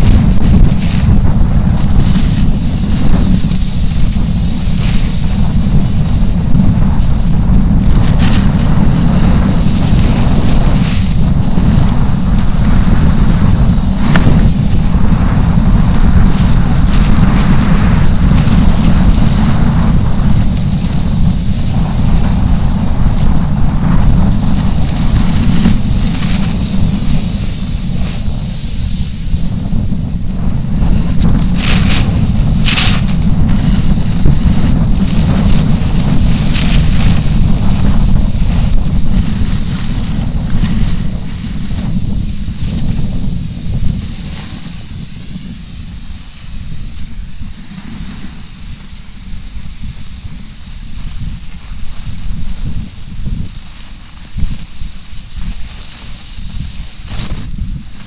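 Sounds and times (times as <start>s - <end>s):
snowboard scraping over snow: 0.0s - 58.0s
wind buffeting microphone: 0.0s - 58.0s.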